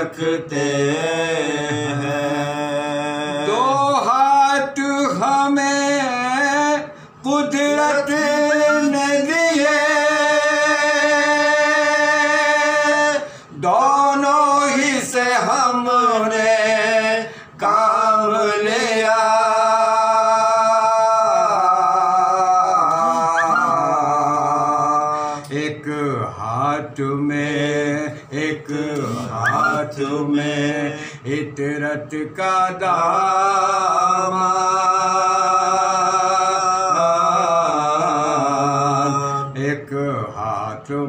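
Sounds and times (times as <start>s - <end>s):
man chanting: 0.0s - 41.0s.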